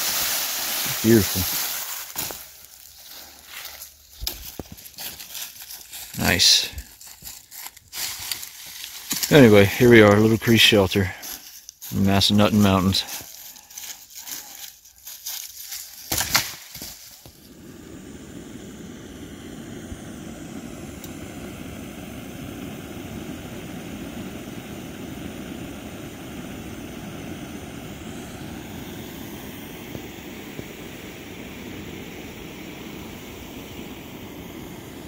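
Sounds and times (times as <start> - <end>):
fire crackles: 0.0 - 35.0.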